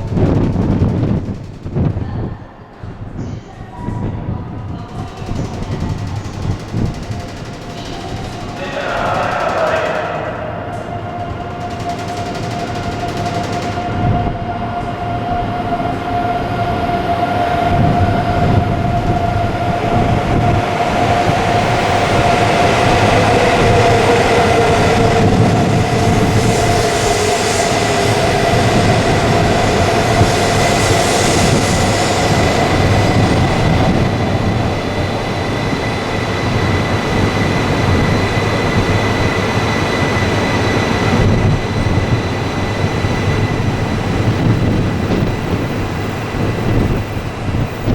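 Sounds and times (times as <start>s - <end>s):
train wheel and air rush: 0.0s - 2.3s, 4.3s - 47.9s
wind buffeting microphone: 0.0s - 47.9s
train electric motor whine: 5.3s - 47.9s.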